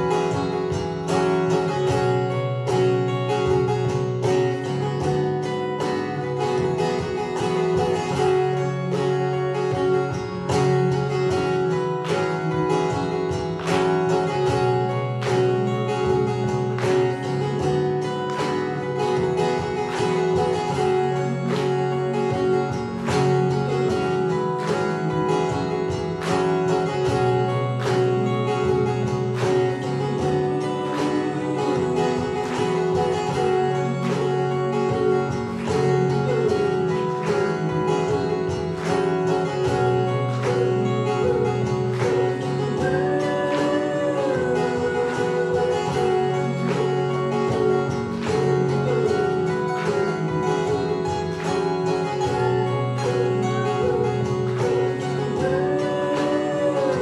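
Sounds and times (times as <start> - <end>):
acoustic guitar loops: 0.0 - 57.0
steady percussive beat: 0.0 - 57.0.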